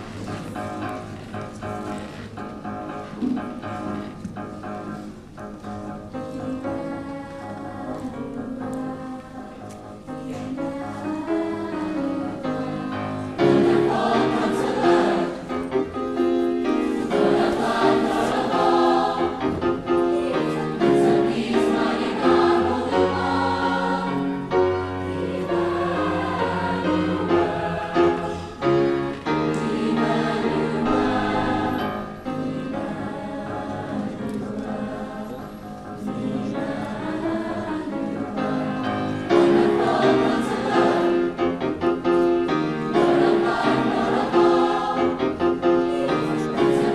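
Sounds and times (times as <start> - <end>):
mixed choir singing: 5.8 - 46.9.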